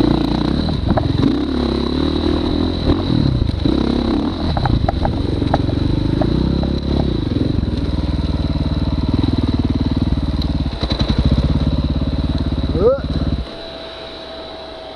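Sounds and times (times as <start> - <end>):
dirt bike engine idling: 0.0 - 14.9.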